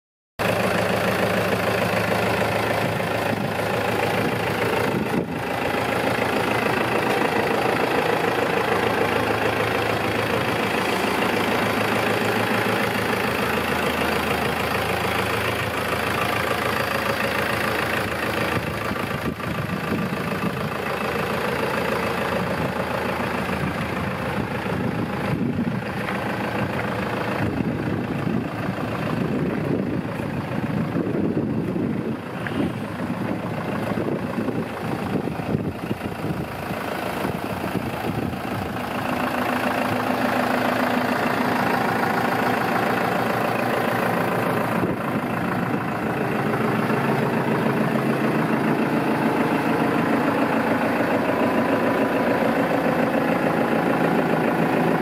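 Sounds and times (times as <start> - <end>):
tractor diesel engine idling: 0.4 - 55.0.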